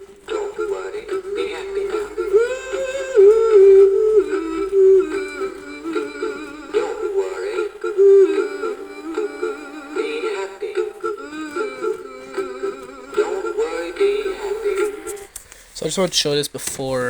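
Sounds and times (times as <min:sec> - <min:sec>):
synthetic singing voice over music: 0:00.0 - 0:15.3.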